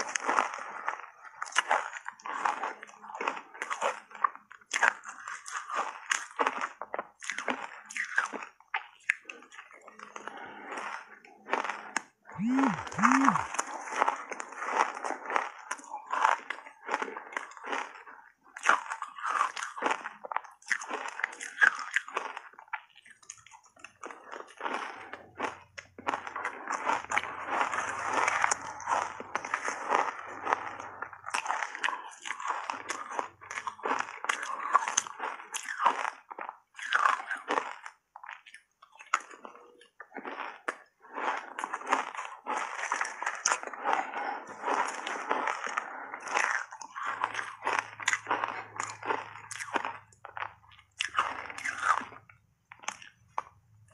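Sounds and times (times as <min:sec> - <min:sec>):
chewing crunchy shaved ice: 0:00.0 - 0:53.9.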